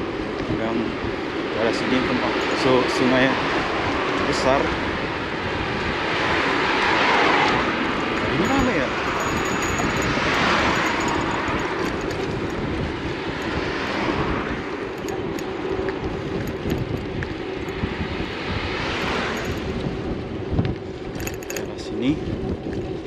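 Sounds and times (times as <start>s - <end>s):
cars passing by: 0.0s - 23.0s
low traffic rumble: 0.0s - 23.0s.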